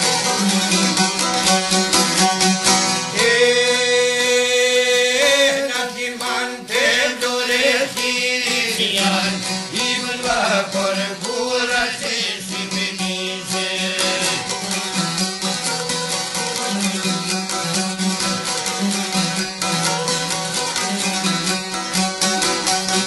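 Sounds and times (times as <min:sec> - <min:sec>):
person singing folk song: 0:00.0 - 0:23.0
plucked lutes: 0:00.0 - 0:23.0.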